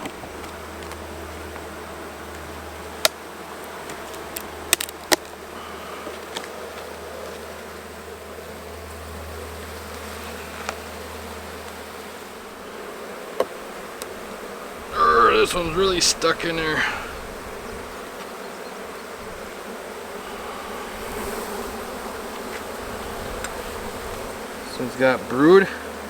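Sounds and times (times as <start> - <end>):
bees buzzing: 0.6 - 26.0.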